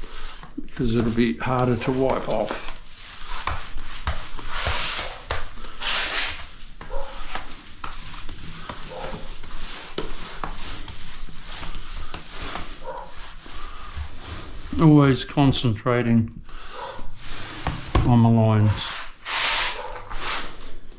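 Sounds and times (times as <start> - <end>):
grout scraping on tiles: 0.0 - 15.8, 16.5 - 20.9.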